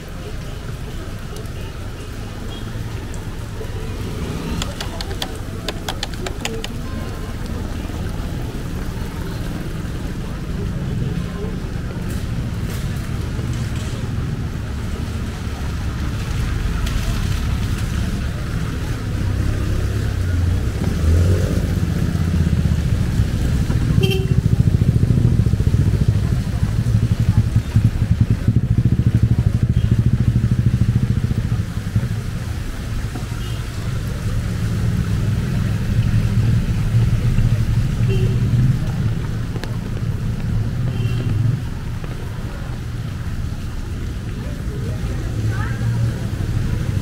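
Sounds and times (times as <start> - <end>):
vehicle engines rumbling past: 0.0 - 47.0.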